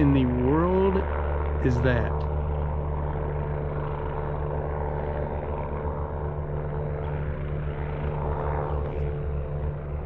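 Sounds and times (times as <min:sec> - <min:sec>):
steady engine drone: 0:00.0 - 0:10.0.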